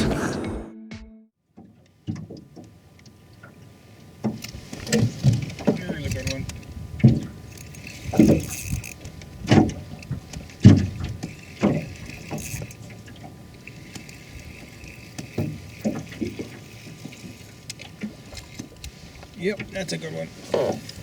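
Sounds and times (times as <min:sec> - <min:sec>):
wind and water hiss: 0:01.9 - 0:21.0.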